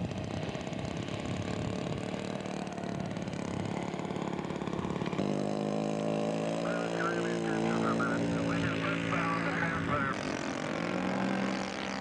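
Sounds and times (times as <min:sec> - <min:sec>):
model airplane engine idling: 0:00.0 - 0:12.0
steady engine drone: 0:00.0 - 0:12.0.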